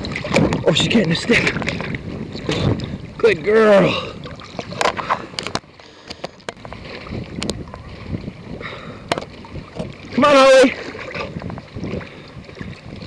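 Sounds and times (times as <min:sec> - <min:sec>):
lake water lapping: 0:00.0 - 0:13.0
sharp water splashes: 0:00.0 - 0:13.0
wind on microphone: 0:00.0 - 0:13.0.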